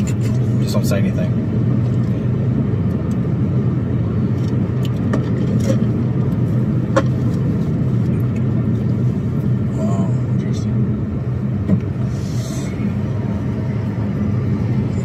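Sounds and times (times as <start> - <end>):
car engine rumble: 0.0 - 15.0
road noise inside car: 0.0 - 15.0.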